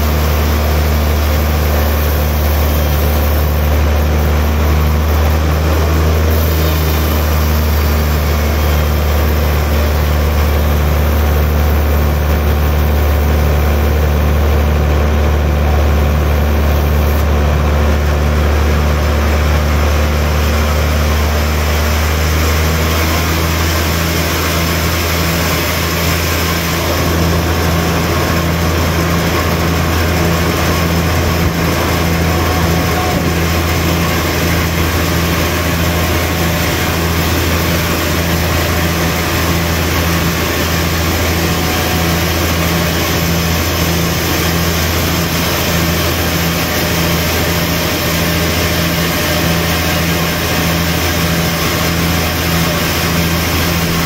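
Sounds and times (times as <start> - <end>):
saw rasping through log: 0.0 - 17.5, 18.2 - 54.0
band saw motor hum: 0.0 - 54.0.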